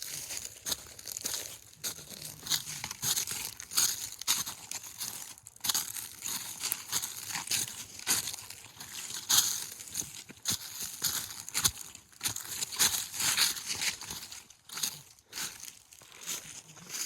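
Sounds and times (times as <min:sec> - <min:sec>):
dry leaves crunching: 0:00.0 - 0:17.0.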